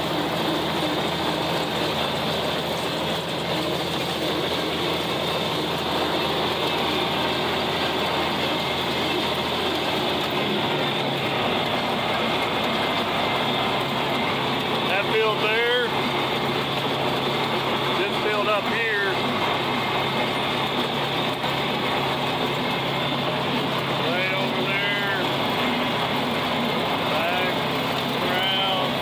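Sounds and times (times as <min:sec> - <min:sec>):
tractor engine under load: 0:00.0 - 0:29.0.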